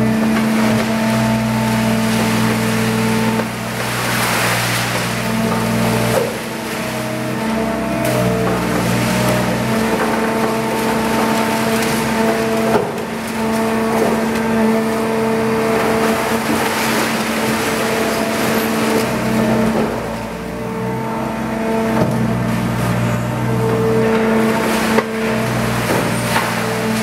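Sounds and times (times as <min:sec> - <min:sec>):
baler machine hum: 0:00.0 - 0:27.0.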